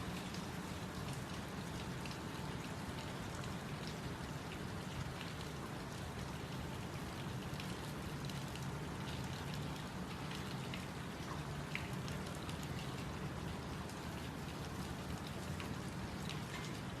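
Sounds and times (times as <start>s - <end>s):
raindrops pattering on surface: 0.0s - 17.0s
steady rain falling: 0.0s - 17.0s.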